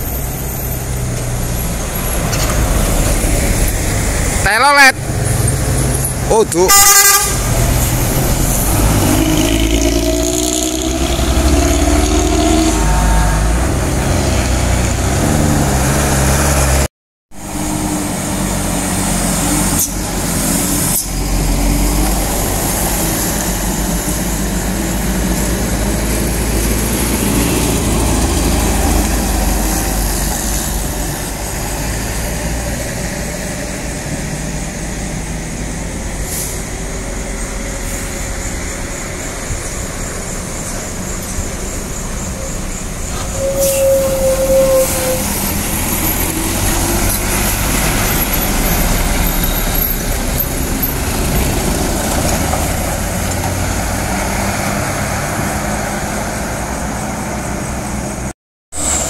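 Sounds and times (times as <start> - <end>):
bus engine passing: 0.0 - 59.0.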